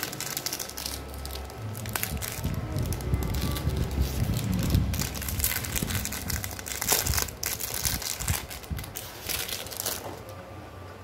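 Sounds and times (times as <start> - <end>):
plastic wrapper crinkling: 0.0 - 10.4.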